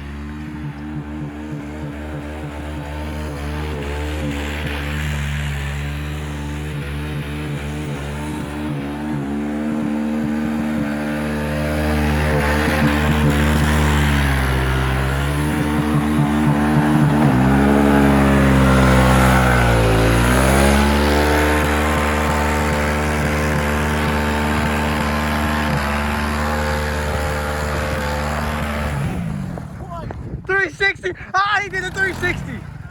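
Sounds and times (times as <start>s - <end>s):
engine revving high: 0.0s - 29.8s, 31.7s - 32.9s.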